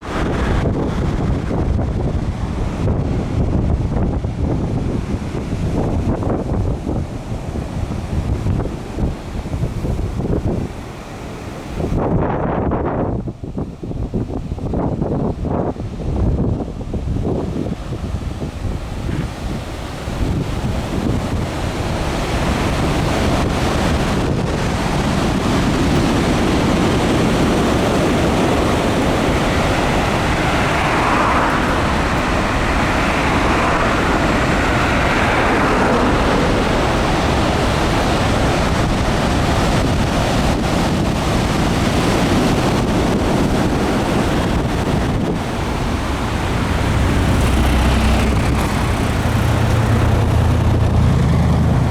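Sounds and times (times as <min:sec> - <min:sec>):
waves breaking on shore: 0:00.0 - 0:51.9
wind buffeting microphone: 0:00.0 - 0:51.9.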